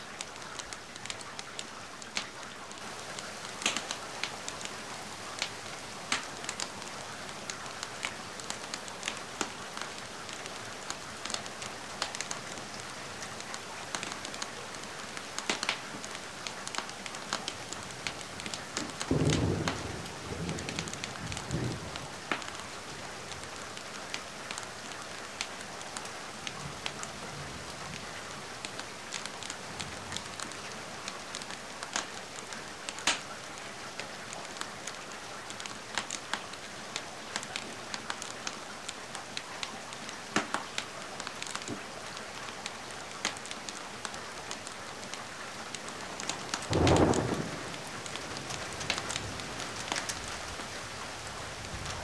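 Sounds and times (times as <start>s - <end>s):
steady rain: 0.0s - 52.0s
wood fire crackling: 0.2s - 20.2s, 28.6s - 33.3s, 34.0s - 52.0s.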